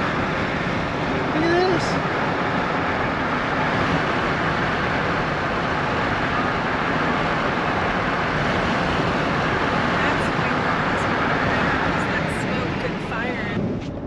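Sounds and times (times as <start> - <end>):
vehicle road noise at highway speed: 0.0 - 14.0.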